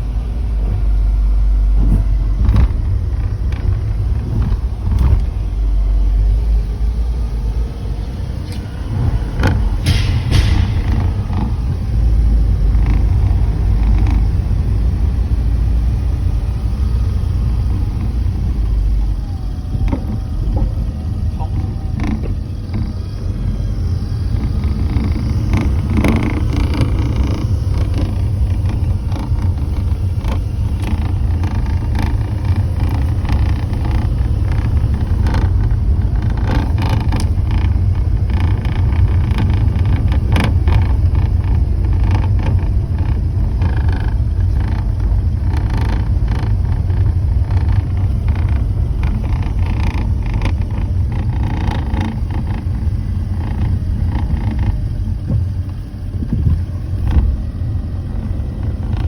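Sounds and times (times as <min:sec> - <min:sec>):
car rumbling on the move: 0:00.0 - 0:59.0
light rattling clicks: 0:08.4 - 0:57.5.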